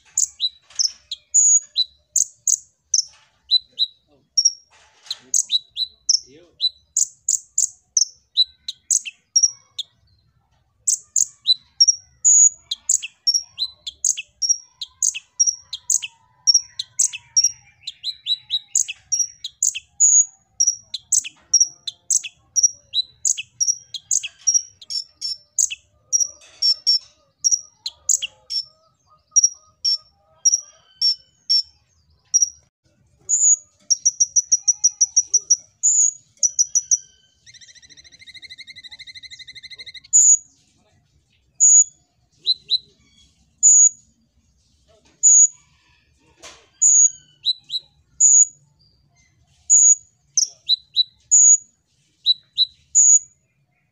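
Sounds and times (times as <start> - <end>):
bird chirping and trilling: 0.0 - 40.6, 41.5 - 44.1, 46.8 - 53.9.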